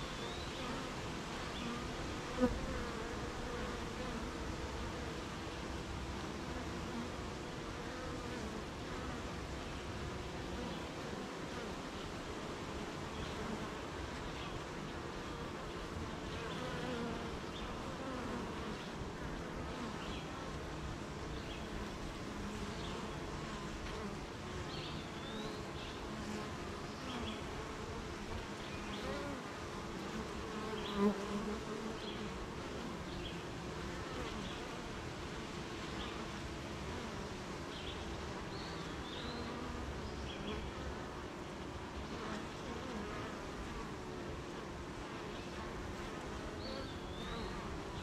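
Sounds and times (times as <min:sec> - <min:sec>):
honeybees buzzing: 0:00.0 - 0:48.0.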